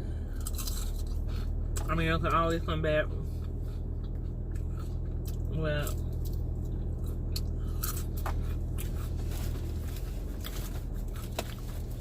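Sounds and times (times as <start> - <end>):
steady low hum: 0.0 - 12.0
chewing crispy fried food: 0.3 - 1.9, 3.3 - 12.0.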